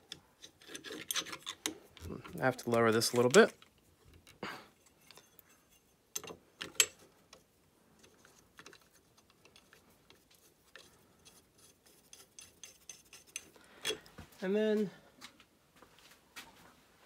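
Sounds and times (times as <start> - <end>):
metal parts clicking and tapping: 0.0 - 14.1.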